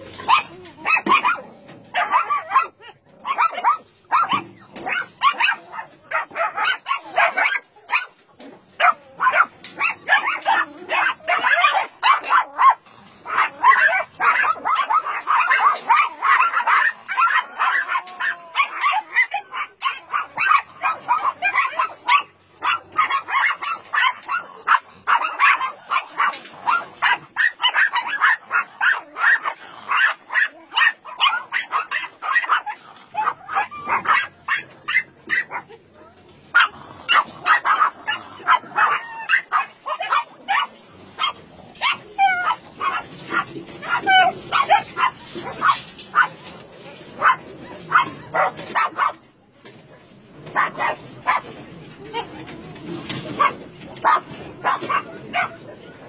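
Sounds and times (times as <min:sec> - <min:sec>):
many dogs barking and yipping: 0:00.0 - 0:56.0.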